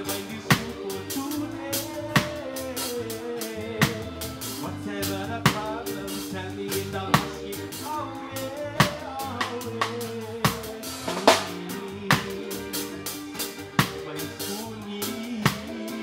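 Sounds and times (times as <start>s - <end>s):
drum kit slow beat: 0.0s - 16.0s
keyboard: 0.0s - 16.0s
ukulele: 0.0s - 16.0s.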